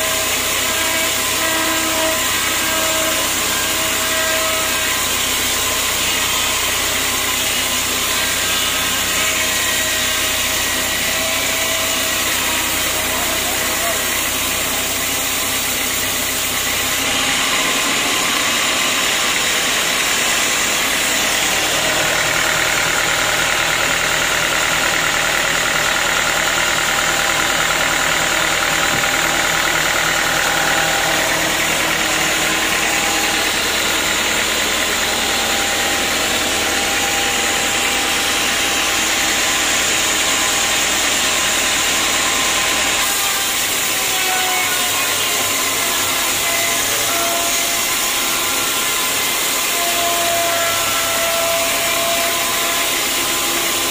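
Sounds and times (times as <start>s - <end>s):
sawmill machinery droning: 0.0s - 53.9s.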